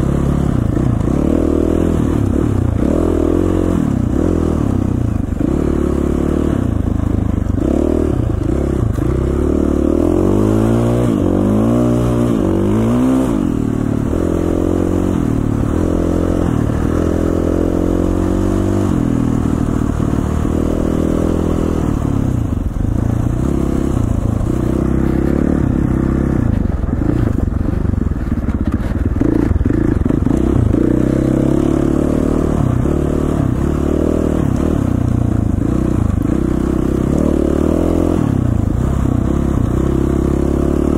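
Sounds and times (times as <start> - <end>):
dirt bike engine revving: 0.0 - 6.9, 7.5 - 27.4, 29.2 - 40.9.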